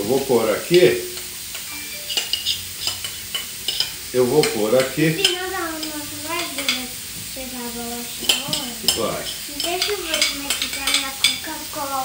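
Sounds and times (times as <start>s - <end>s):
fruit sizzling on a grill: 0.0s - 12.0s.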